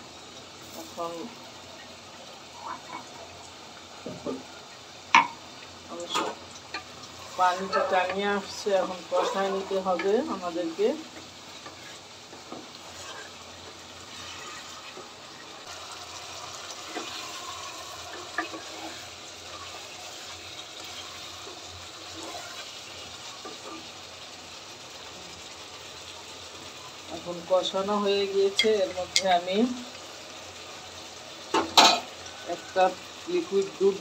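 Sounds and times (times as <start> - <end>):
chicken sizzling in a pot: 0.0 - 34.0.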